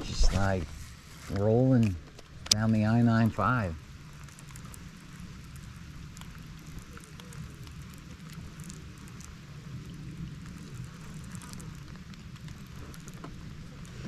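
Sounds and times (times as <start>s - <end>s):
light rain on water: 0.1s - 14.0s.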